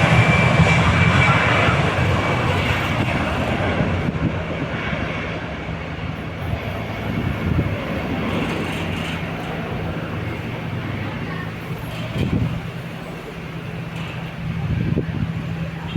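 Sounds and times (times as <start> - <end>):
jet engine rumble: 0.0 - 15.9.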